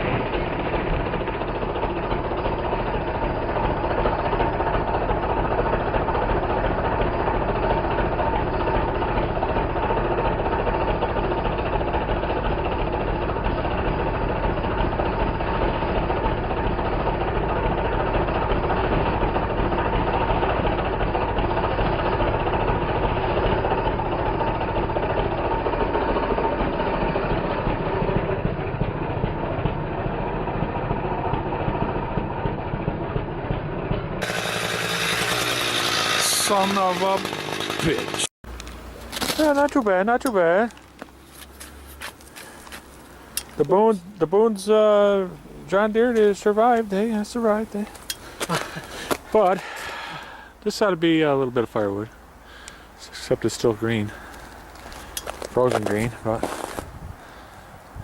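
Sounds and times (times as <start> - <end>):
chainsaw running: 0.0 - 50.6, 53.6 - 57.6.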